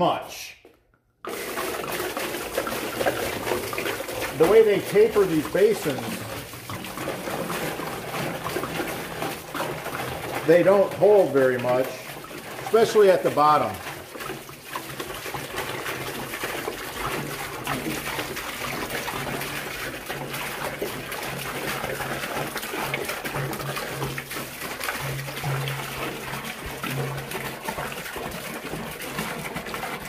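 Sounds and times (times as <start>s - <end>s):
water pouring into basin: 1.3s - 30.0s.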